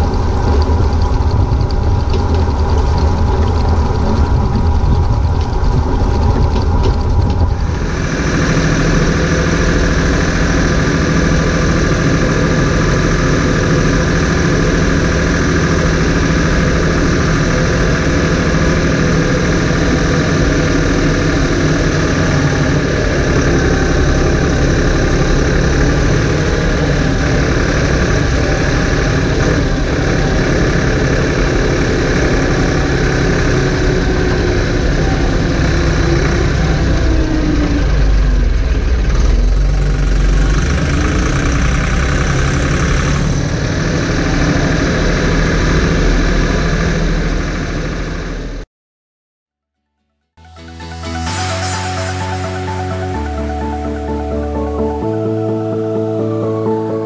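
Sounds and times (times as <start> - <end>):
tractor diesel engine droning: 0.0 - 48.6, 50.4 - 57.0.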